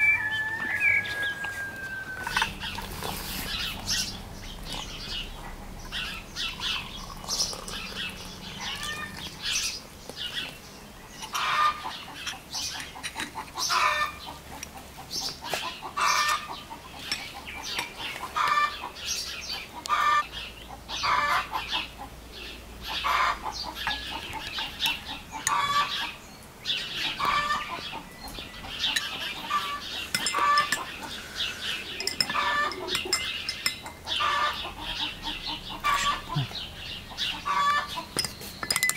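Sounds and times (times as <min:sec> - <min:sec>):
chickens clucking: 0:00.0 - 0:38.6.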